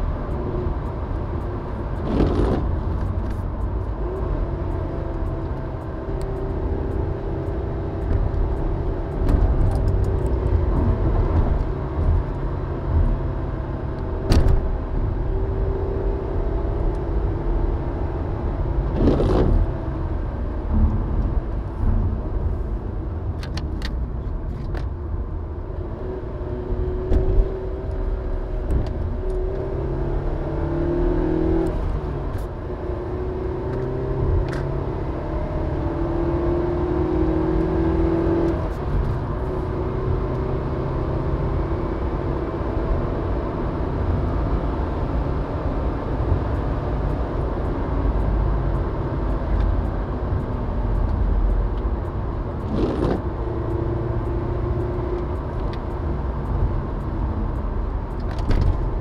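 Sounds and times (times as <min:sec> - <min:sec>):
car engine hum: 0:00.0 - 0:59.0
road rumble on wet road: 0:00.0 - 0:59.0.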